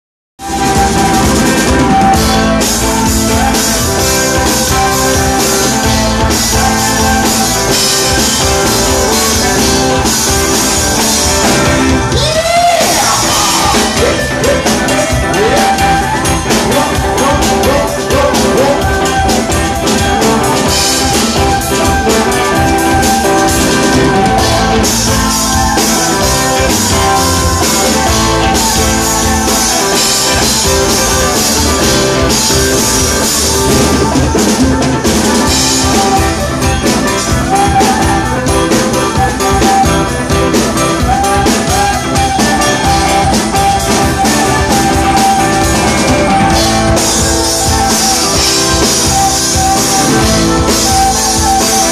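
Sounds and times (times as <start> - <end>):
live rock band: 0.4 - 51.9.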